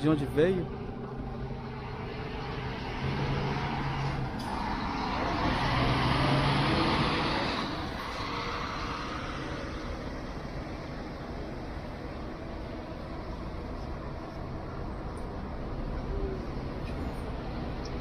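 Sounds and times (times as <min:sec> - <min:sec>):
bus diesel engine passing: 0:00.0 - 0:18.0.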